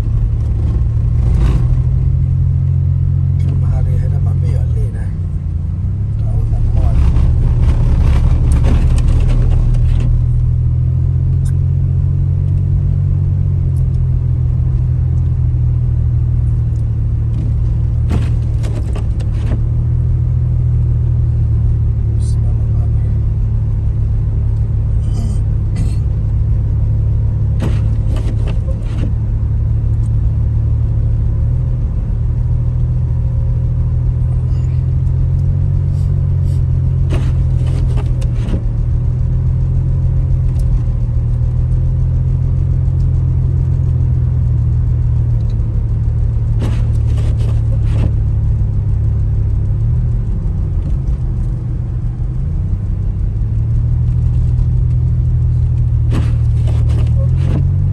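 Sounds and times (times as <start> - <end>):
car rumbling on the move: 0.0 - 57.9.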